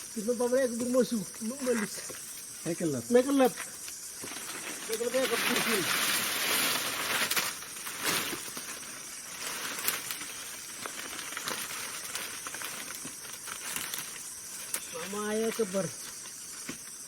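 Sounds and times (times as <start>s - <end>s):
leaves and branches rustling: 0.0s - 17.0s.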